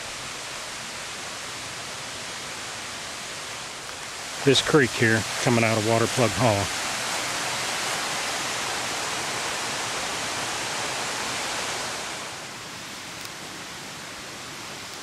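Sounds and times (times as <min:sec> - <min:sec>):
creek splashing over rocks: 0:01.0 - 0:14.9.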